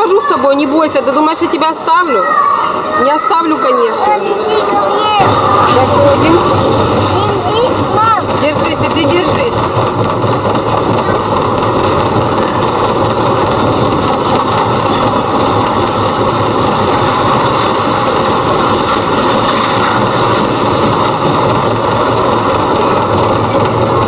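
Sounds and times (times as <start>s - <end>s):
ride-on train rumbling on track: 4.0s - 24.0s.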